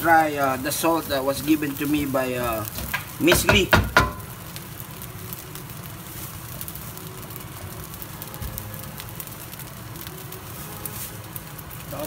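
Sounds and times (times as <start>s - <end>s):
fried rice sizzling in wok: 0.0s - 12.0s.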